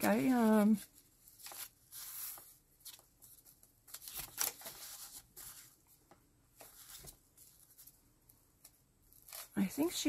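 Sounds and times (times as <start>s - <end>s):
paper pages rustling: 0.0s - 8.1s.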